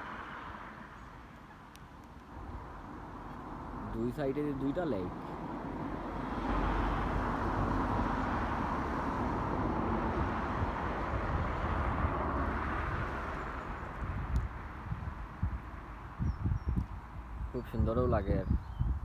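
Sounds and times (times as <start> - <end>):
passing vehicle rushing rumble: 0.0 - 1.3, 2.4 - 19.0.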